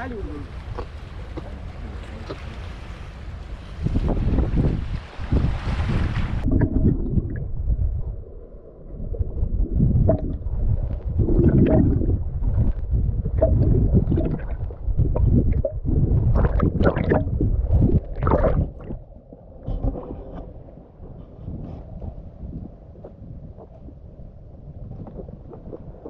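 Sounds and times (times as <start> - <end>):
underwater seawater churning: 0.0 - 26.0.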